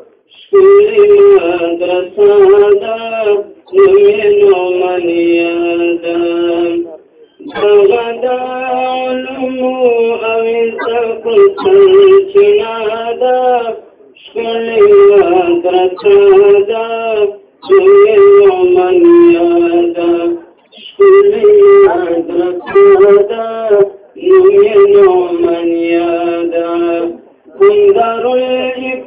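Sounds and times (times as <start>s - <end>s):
person chanting: 0.3s - 29.0s.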